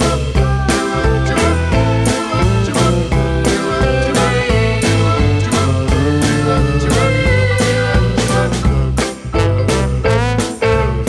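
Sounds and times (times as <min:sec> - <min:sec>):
upbeat swing music: 0:00.0 - 0:11.0.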